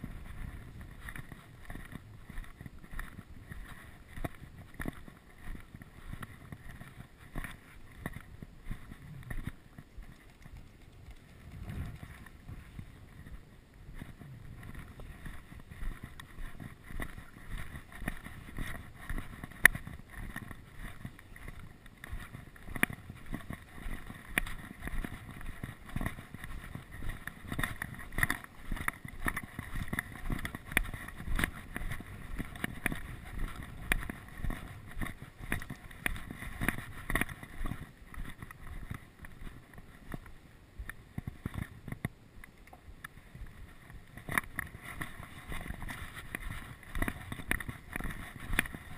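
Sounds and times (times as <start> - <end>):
wind buffeting microphone: 0.0 - 40.0
footsteps on gravel: 0.0 - 40.4.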